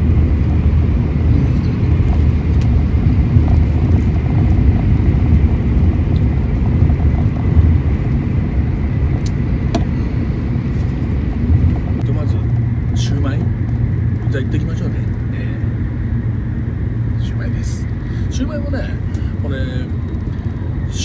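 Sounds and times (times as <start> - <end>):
train cabin rumble: 0.0 - 21.0.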